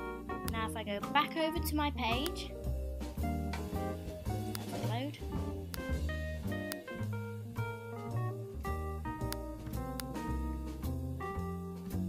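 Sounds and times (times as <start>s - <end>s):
light jazzy instrumental music: 0.0s - 12.0s.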